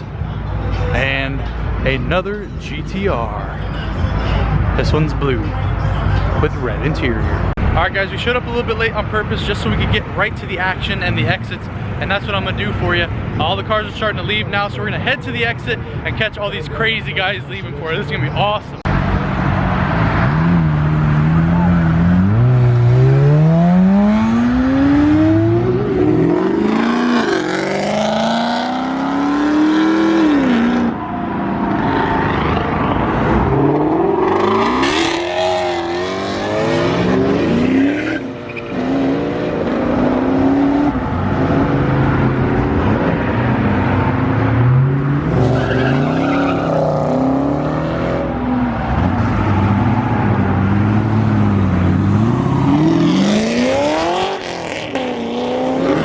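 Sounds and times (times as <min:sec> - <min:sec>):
car engines revving and accelerating: 0:00.0 - 0:56.0.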